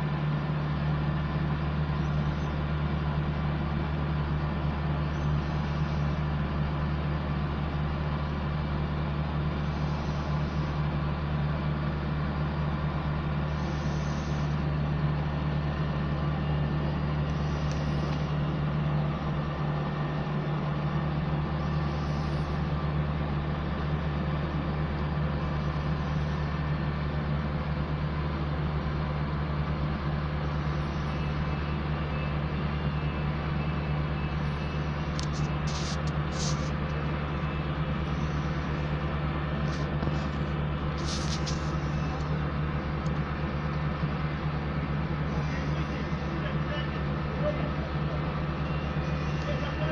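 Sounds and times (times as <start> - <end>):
diesel engine humming: 0.0 - 49.9.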